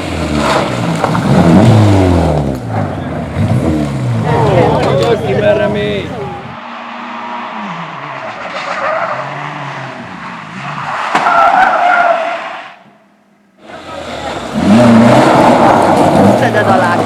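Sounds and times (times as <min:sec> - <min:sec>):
race car engine revving: 0:00.0 - 0:12.6, 0:13.6 - 0:17.0.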